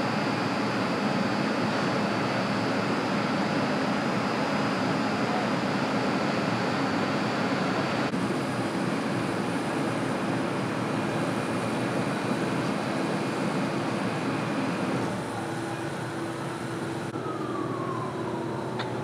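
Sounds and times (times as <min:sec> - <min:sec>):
subway train hum and rumble: 0:00.0 - 0:19.0.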